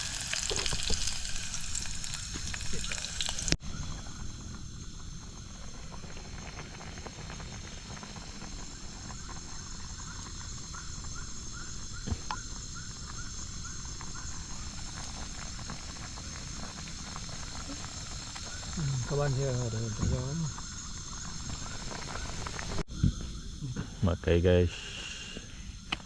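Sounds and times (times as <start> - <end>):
night insects droning: 0.0 - 26.0.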